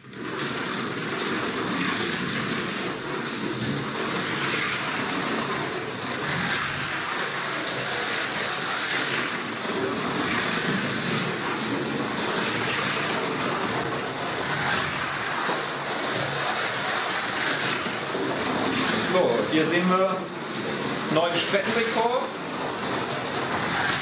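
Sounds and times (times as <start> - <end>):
slot car motor whirring: 0.0 - 24.0.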